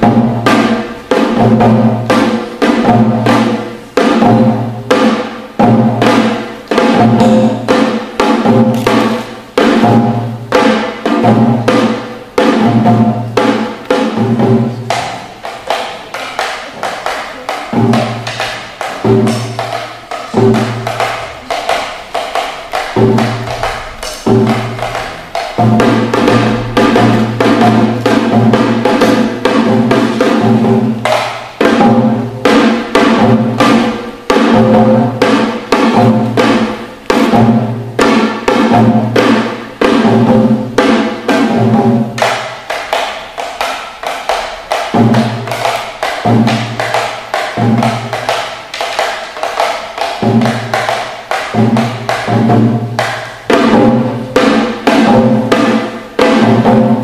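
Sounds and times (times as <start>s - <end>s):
drums played with sticks: 0.0s - 57.0s.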